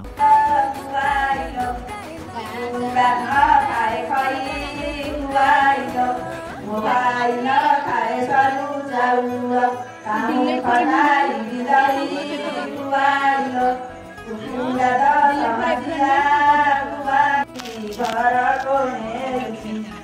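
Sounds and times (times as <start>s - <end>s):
woman singing into microphone: 0.0s - 20.0s.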